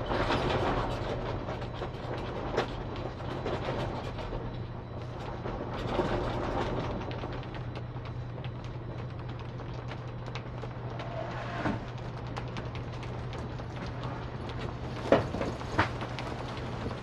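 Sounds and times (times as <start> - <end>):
boat ticking and creaking: 0.0 - 17.0
steady low hum: 0.0 - 17.0
wind: 0.0 - 17.0.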